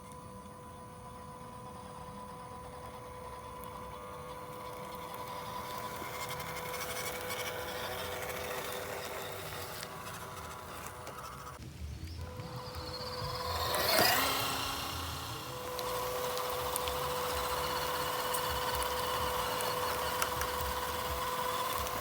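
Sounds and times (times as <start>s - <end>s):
electric motor and gearbox whining: 0.0s - 22.0s.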